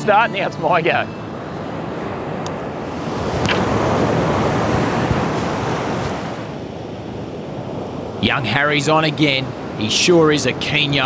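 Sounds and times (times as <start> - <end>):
surf breaking on sandy beach: 1.6 - 11.0.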